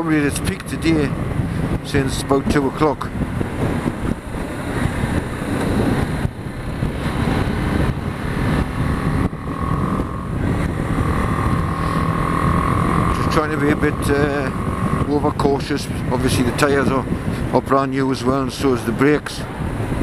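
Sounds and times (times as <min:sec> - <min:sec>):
steady high whine: 0:00.0 - 0:16.7
wind rushing over microphone: 0:00.0 - 0:20.0
motorcycle engine running: 0:00.2 - 0:17.5.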